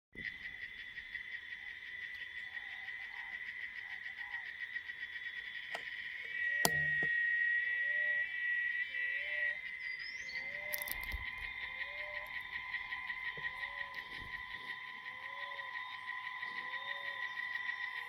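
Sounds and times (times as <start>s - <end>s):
frog calling: 0.2s - 18.0s
insects trilling: 0.2s - 18.0s.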